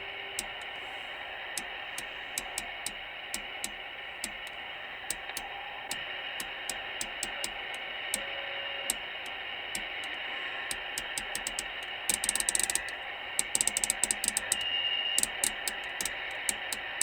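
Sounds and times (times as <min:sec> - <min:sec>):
channel selector clicks: 0:00.0 - 0:17.0
radio static hiss: 0:00.0 - 0:17.0
steady whistle: 0:00.0 - 0:17.0.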